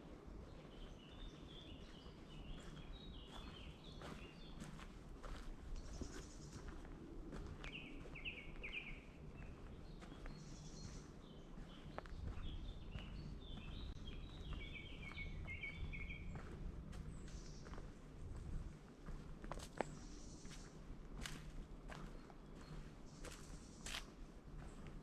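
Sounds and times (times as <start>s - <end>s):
footsteps on woodland path: 0.0s - 25.0s
songbird singing: 0.0s - 25.0s.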